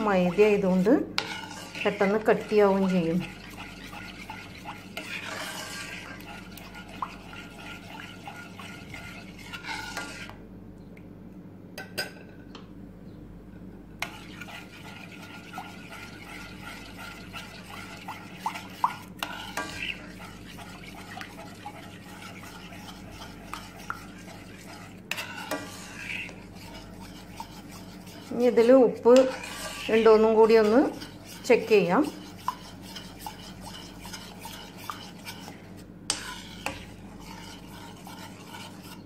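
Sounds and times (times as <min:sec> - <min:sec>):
metal spoon stirring sauce in pan: 0:00.0 - 0:10.4, 0:14.0 - 0:39.0
steady low hum: 0:00.0 - 0:39.0.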